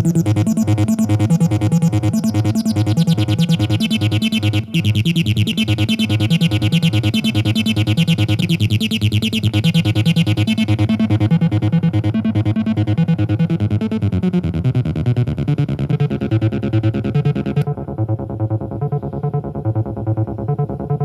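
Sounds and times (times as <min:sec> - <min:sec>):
synthesizer bass line: 0:00.0 - 0:21.0.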